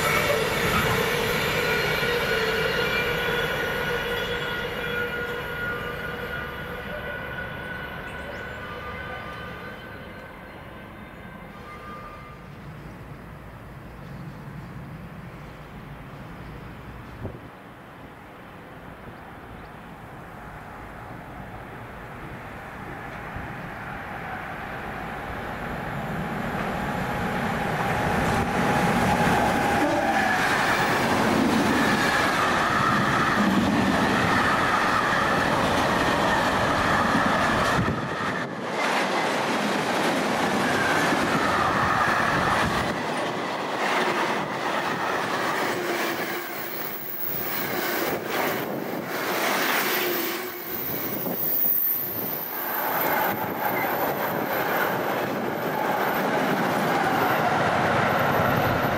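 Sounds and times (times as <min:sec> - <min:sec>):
freight train passing: 0:00.0 - 0:58.9.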